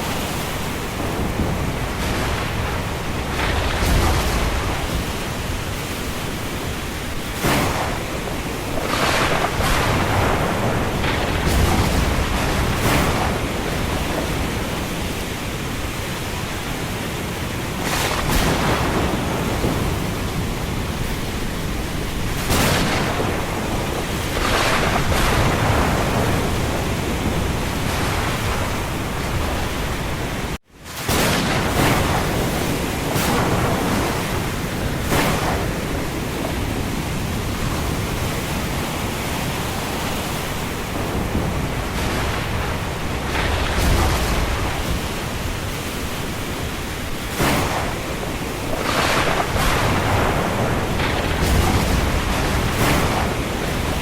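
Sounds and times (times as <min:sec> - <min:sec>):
thunder cracks: 0:00.0 - 0:54.0
wind: 0:00.0 - 0:54.0.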